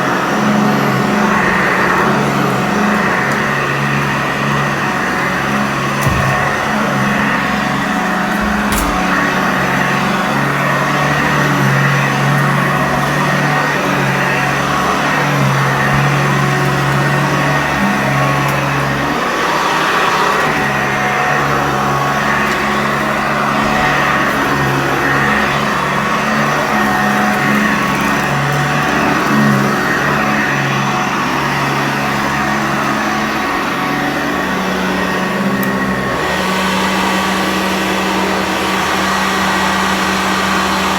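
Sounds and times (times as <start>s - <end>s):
vacuum cleaner running on carpet: 0.0s - 40.9s.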